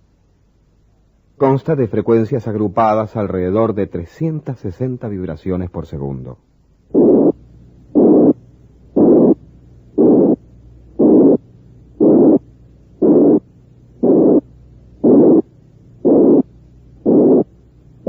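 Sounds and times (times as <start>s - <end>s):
filtered white noise pulses: 0.0s - 18.0s.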